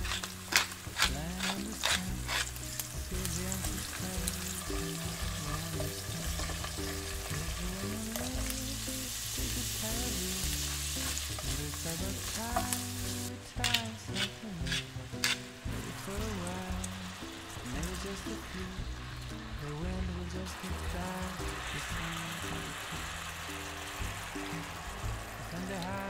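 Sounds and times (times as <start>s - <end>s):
garlic and mushrooms sizzling in pan: 0.0s - 26.0s
soft background music: 0.0s - 26.0s.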